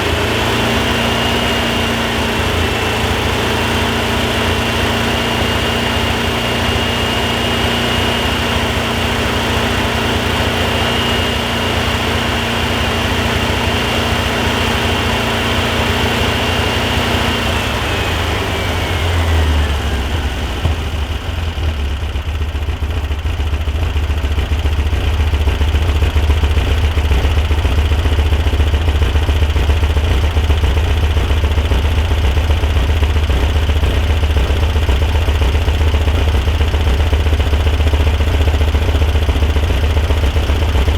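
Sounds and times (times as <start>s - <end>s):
car engine idling with whine: 0.0s - 40.9s.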